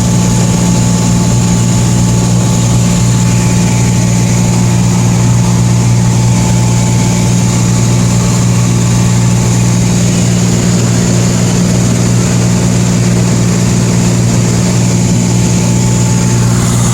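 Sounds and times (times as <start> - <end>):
aircraft engine and propeller droning: 0.0 - 16.9.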